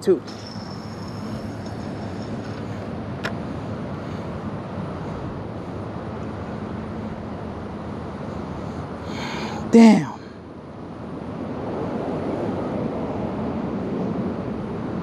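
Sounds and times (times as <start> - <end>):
faint hum: 0.0 - 15.0
low outdoor rumble: 0.0 - 15.0.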